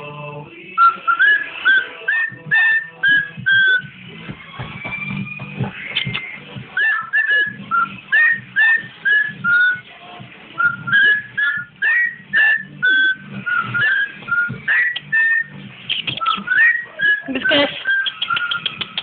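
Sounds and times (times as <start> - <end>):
cockatiel whistling: 0.8 - 3.9, 5.0 - 9.9, 10.6 - 19.0.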